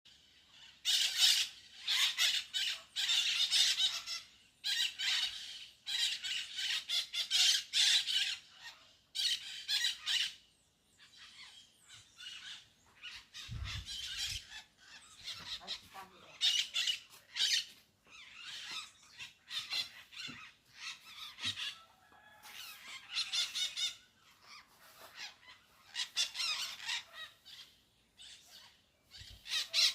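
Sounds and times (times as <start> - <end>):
flock of birds squawking: 0.6 - 10.4, 12.1 - 29.9.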